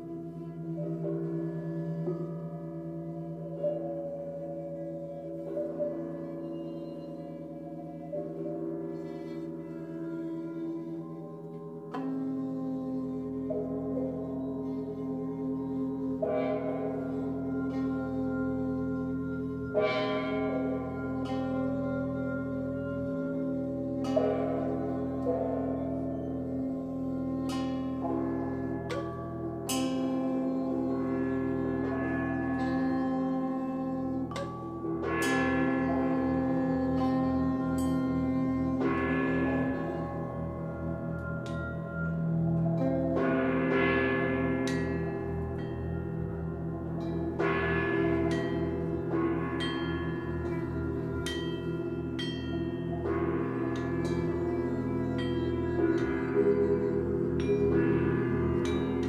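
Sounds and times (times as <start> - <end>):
gongs ringing: 0.0 - 59.0
held low ringing tone: 0.0 - 59.0
low pulsing drone: 0.0 - 59.0.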